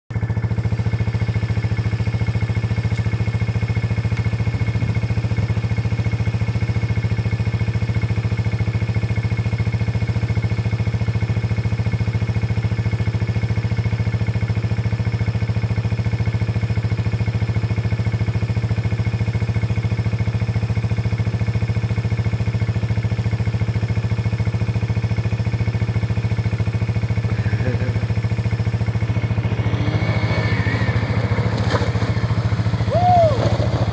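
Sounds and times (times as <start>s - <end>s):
quad engine idling: 0.1s - 33.9s.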